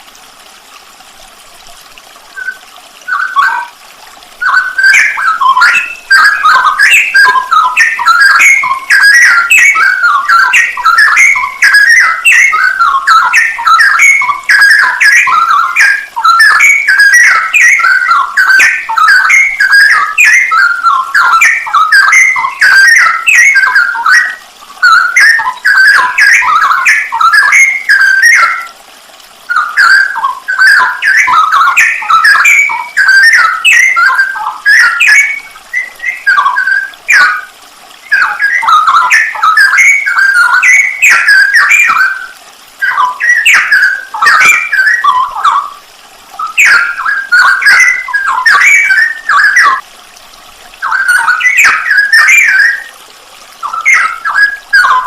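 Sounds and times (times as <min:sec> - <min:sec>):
bird singing whistled notes: 0:02.3 - 0:03.8, 0:04.4 - 0:28.7, 0:29.5 - 0:45.8, 0:46.4 - 0:49.8, 0:50.8 - 0:53.0, 0:53.6 - 0:55.0.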